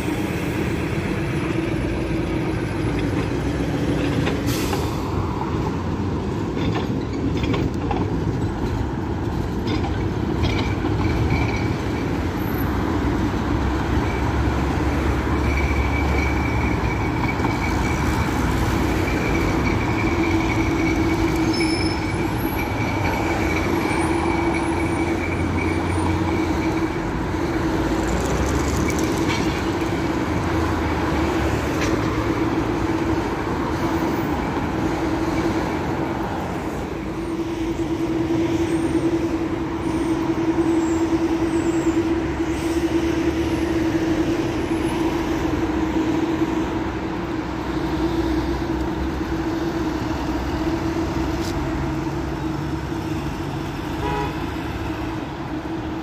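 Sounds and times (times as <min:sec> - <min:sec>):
tram rumbling on rails: 0:00.0 - 0:56.0
high wheel squeal: 0:09.6 - 0:56.0.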